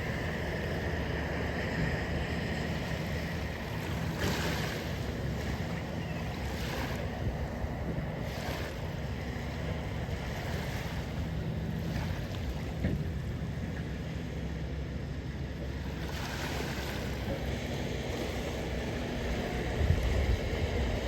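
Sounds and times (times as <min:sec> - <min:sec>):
wind buffeting microphone: 0:00.0 - 0:13.6, 0:17.1 - 0:21.0
ocean waves washing ashore: 0:00.0 - 0:21.0.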